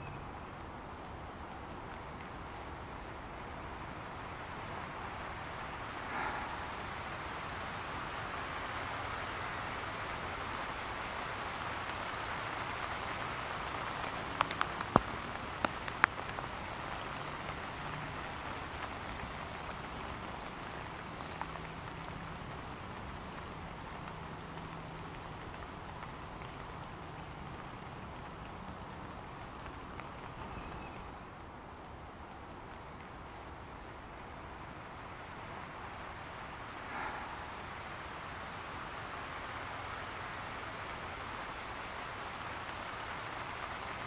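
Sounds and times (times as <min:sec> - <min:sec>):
water dripping on umbrella and lawn: 0:00.0 - 0:44.0.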